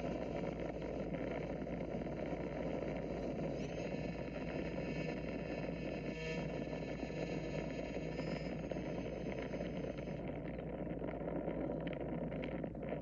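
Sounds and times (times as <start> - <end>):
model plane motor whine: 0.0 - 13.0.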